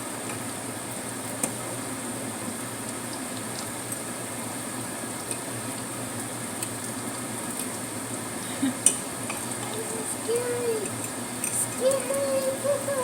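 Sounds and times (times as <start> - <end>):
tofu sizzling in hot oil: 0.0 - 11.9.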